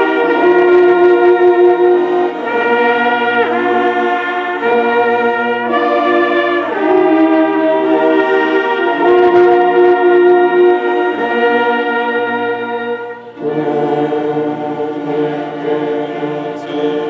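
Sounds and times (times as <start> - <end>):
slow brass chords: 0.0 - 17.0.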